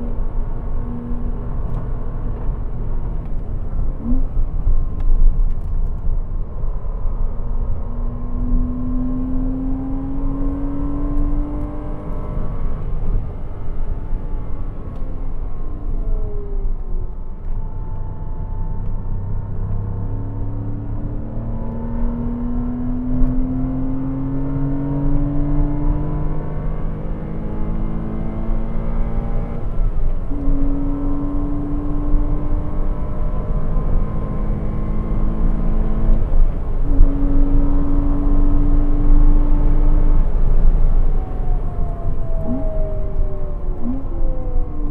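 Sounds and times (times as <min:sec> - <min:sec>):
road and wind rumble: 0:00.0 - 0:44.9
car engine revving: 0:07.4 - 0:17.2, 0:17.8 - 0:44.9.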